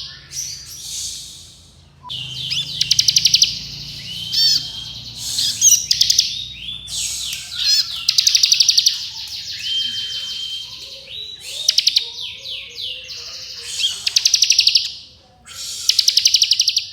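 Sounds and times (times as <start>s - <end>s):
bird singing trills and whistles: 0.0s - 16.9s.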